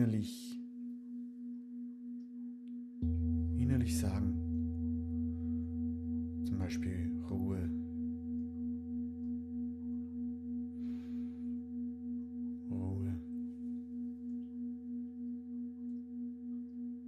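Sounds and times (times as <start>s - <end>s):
singing bowl ringing: 0.6s - 17.0s.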